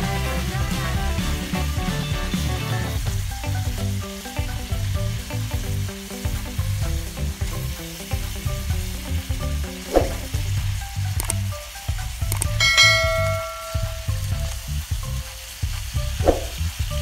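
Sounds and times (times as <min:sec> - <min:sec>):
chicken and onions sizzling: 0:00.0 - 0:12.3, 0:13.1 - 0:17.0.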